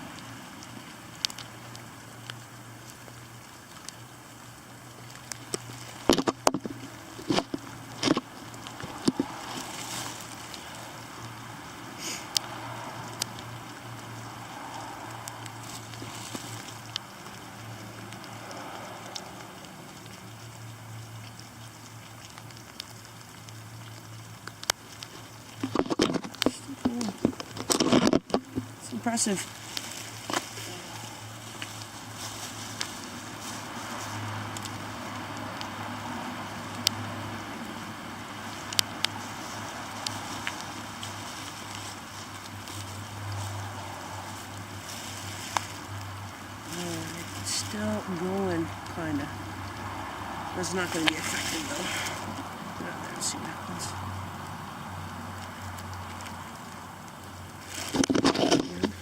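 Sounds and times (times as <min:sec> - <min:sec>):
short sharp ticks and rustles: 0:00.0 - 0:59.0
steady rain hiss: 0:00.0 - 0:59.0.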